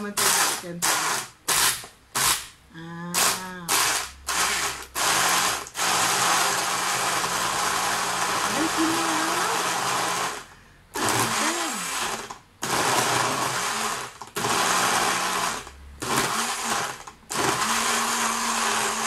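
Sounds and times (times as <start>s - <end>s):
blender motor blending ice: 0.0s - 2.4s, 3.2s - 19.0s.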